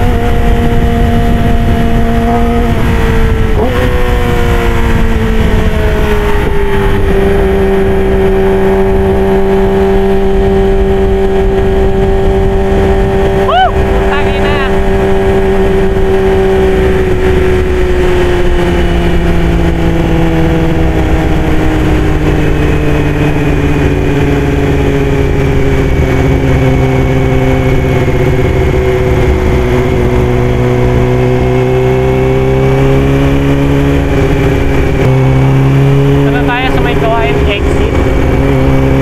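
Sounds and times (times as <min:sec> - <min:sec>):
motorcycle engine running: 0:00.0 - 0:39.0
wind rush: 0:00.0 - 0:39.0.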